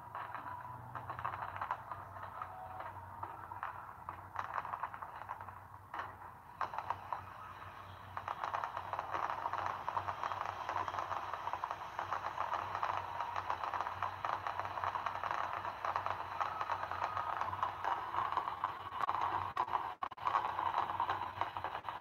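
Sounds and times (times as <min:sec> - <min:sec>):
fireworks popping and crackling: 0:00.0 - 0:22.0.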